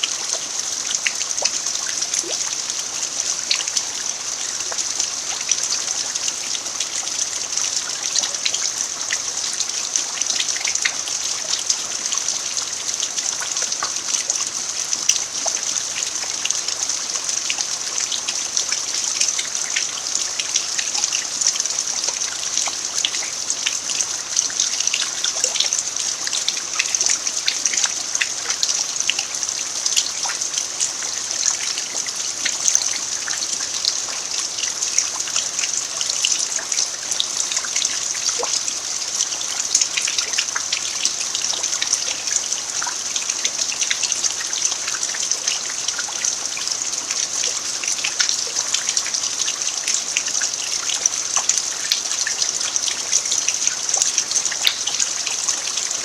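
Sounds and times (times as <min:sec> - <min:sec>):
rain falling on earth: 0:00.0 - 0:56.0
trickling water: 0:00.0 - 0:56.0.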